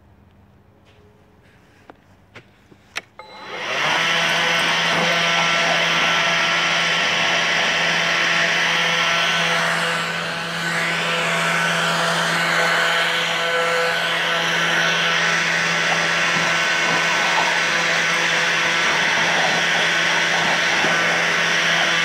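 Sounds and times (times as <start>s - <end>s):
leaf blower rushing air: 3.2s - 22.0s.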